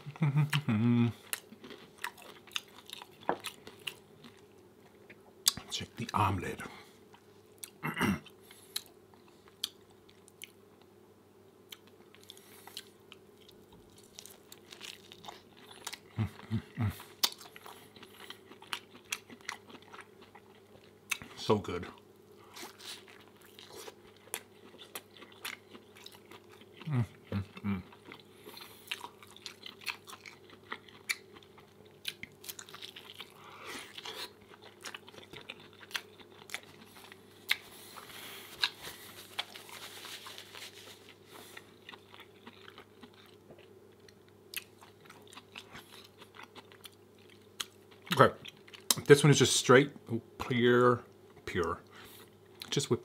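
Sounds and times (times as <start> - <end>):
man chewing: 0.0 - 6.2, 7.0 - 10.9, 11.7 - 21.4, 22.0 - 49.1.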